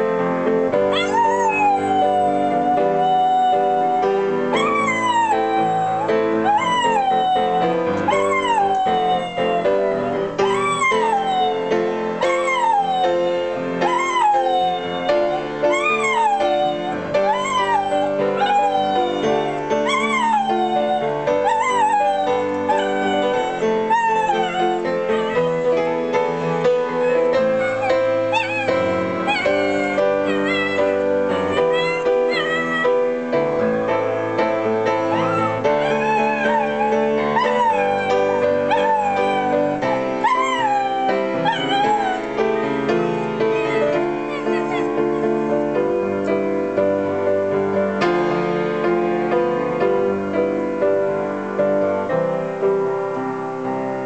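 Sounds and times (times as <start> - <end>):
piano playing slow song: 0.0 - 54.0
dog howling: 0.9 - 45.9.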